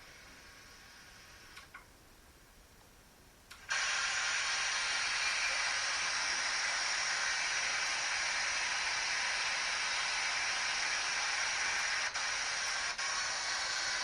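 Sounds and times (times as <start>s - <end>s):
loud static hiss: 0.0s - 14.0s.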